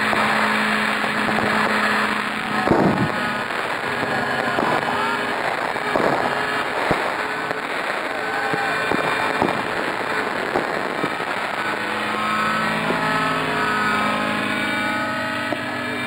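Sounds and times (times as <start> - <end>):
fireworks hissing and crackling: 0.0 - 16.0
fireworks popping: 0.0 - 16.0
helicopter rotor: 0.0 - 16.0.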